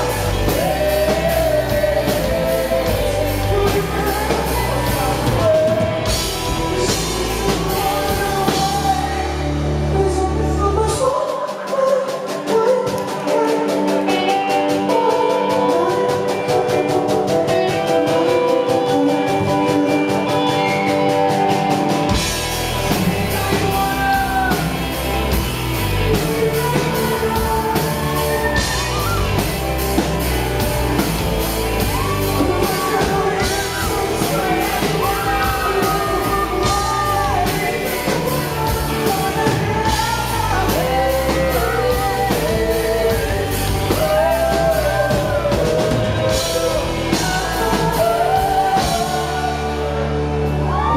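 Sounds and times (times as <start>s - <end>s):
live pop-rock band: 0.0s - 50.9s
person singing: 0.0s - 50.9s.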